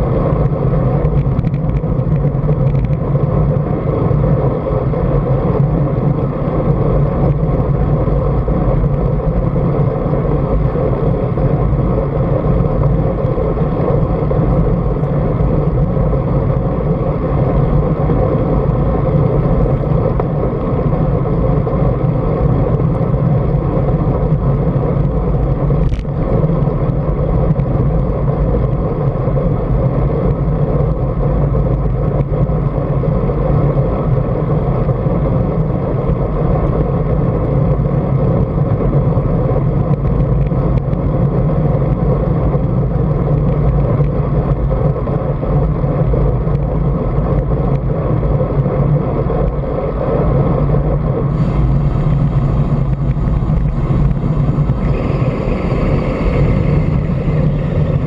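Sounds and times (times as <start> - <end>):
tyres humming on tarmac: 0.0 - 58.0
wind rushing over microphone: 0.0 - 58.0.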